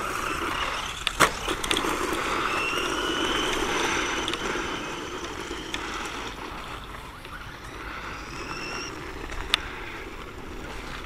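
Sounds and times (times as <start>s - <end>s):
electric toy truck whining: 0.0s - 11.0s.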